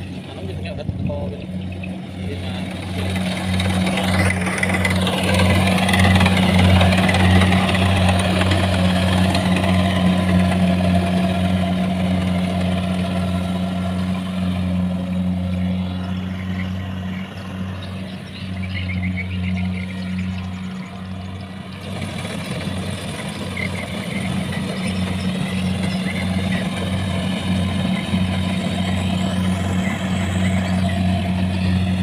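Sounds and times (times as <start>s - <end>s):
combine harvester diesel engine hum: 0.0s - 32.0s
cutting and threshing gear noise: 0.0s - 32.0s.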